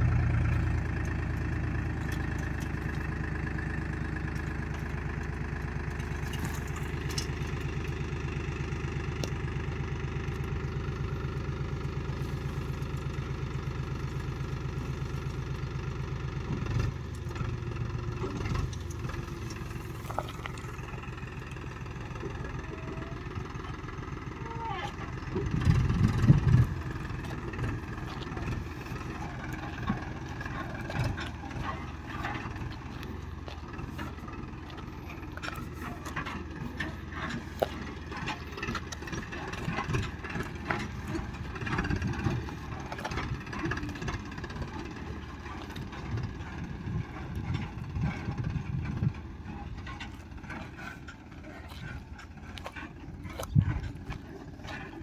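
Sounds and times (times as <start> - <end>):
diesel engine running: 0.0 - 55.0
machinery clanks and rattles: 0.0 - 55.0.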